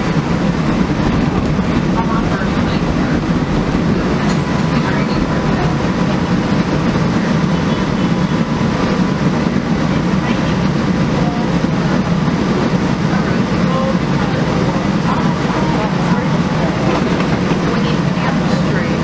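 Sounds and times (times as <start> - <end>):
streetcar wheels rumbling: 0.0 - 19.0.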